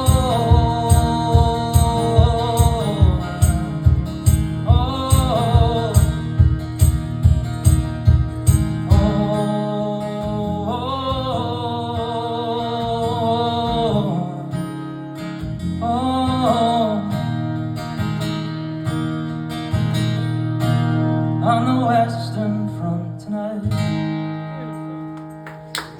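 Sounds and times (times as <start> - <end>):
acoustic guitar strumming: 0.0 - 25.9.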